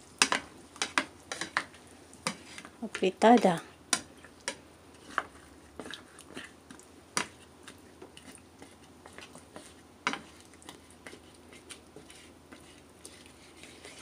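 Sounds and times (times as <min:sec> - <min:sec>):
spatula scraping stew in pan: 0:00.2 - 0:14.0.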